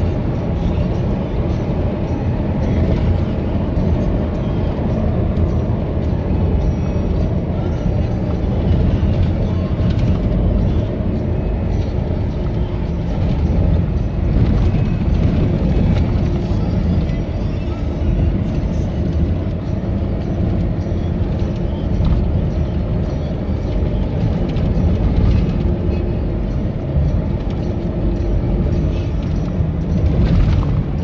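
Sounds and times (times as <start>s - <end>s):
engine and tyre noise in cabin: 0.0s - 31.0s.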